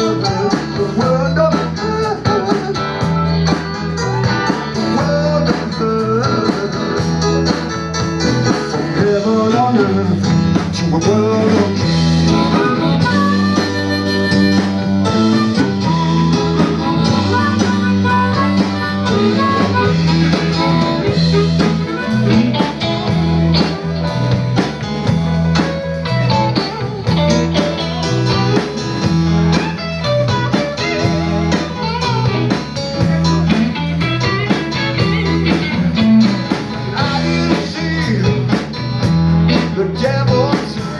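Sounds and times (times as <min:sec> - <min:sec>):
blues trio playing live: 0:00.0 - 0:40.9.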